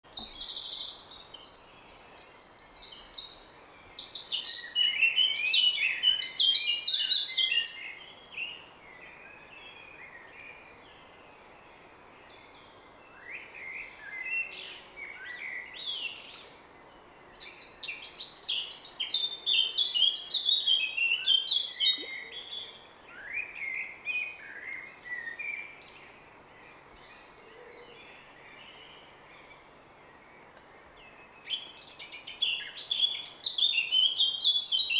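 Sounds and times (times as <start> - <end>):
faint outdoor hiss: 0.0 - 34.9
songbirds singing: 0.0 - 34.9.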